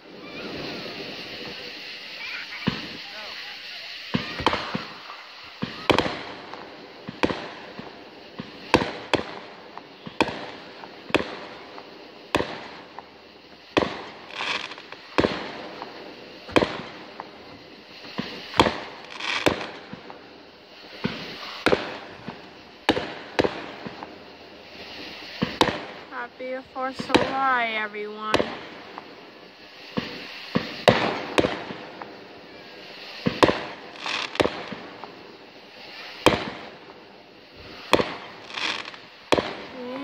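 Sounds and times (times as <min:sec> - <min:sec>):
fireworks bangs: 0:00.0 - 0:40.0
fireworks hissing: 0:00.0 - 0:40.0.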